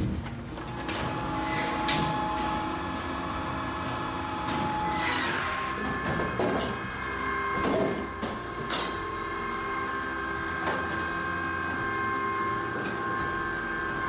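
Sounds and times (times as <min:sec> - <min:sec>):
machine drone with whine: 0:00.0 - 0:14.0.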